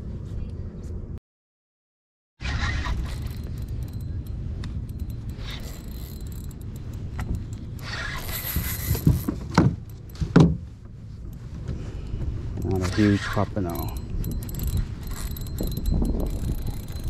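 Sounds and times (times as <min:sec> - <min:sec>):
low handling rumble: 0:02.6 - 0:17.0.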